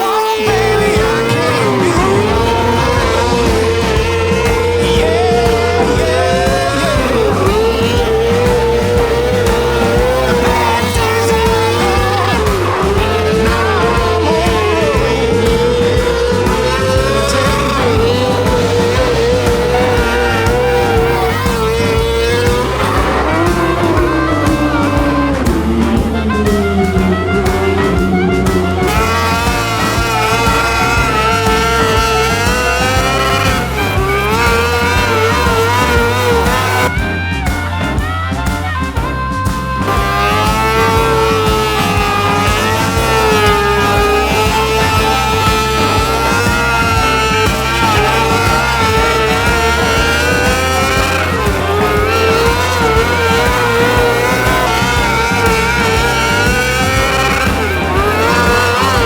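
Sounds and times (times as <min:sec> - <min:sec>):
race car engine at high revs: 0:00.0 - 0:37.2, 0:39.0 - 0:59.0
rock music: 0:00.0 - 0:59.0.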